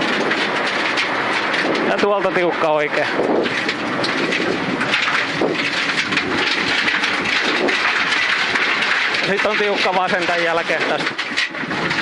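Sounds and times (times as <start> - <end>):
engine and tyre rumble: 0.0 - 12.0
gravel clattering against underbody: 0.0 - 12.0.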